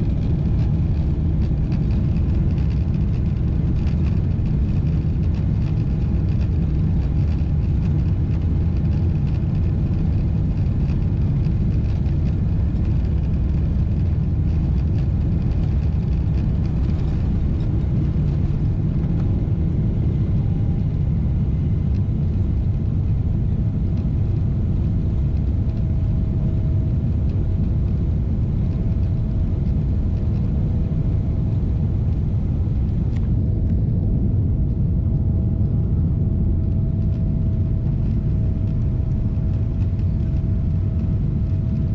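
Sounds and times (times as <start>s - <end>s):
faint jet engine whine: 0.0s - 41.9s
jet cabin rumble: 0.0s - 41.9s.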